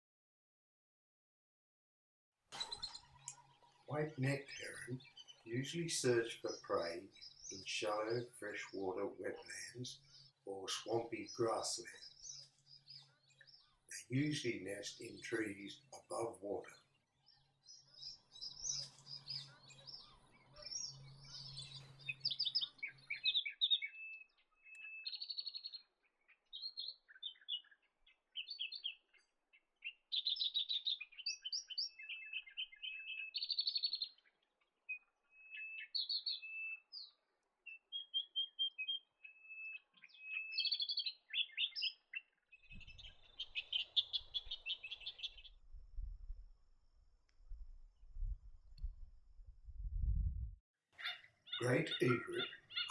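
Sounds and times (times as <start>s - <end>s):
small birds chirping and trilling: 2.5s - 46.4s, 51.0s - 52.9s.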